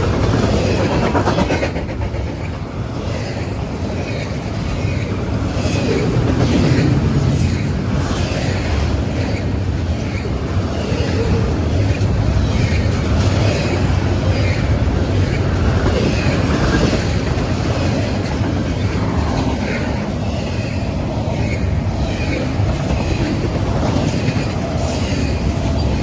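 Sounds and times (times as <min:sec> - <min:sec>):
freight train rumbling: 0:00.0 - 0:26.0.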